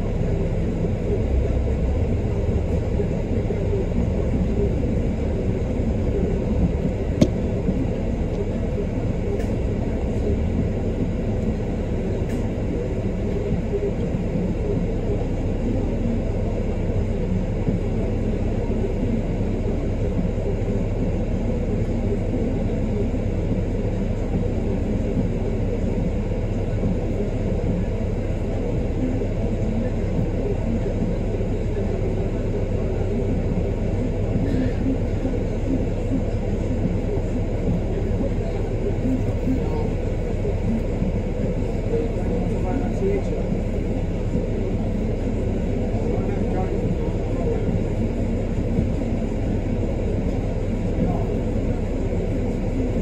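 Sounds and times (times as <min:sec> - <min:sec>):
bus engine idling: 0:00.0 - 0:53.0.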